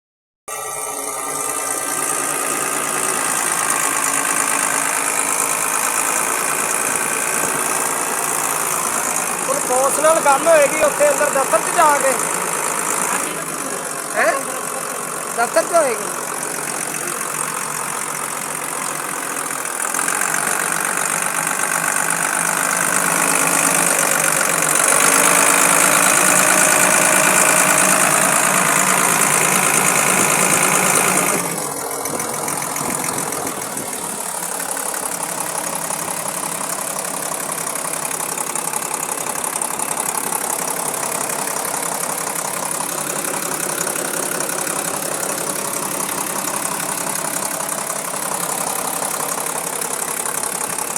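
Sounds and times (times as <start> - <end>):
diesel engine running: 0.5 - 50.9.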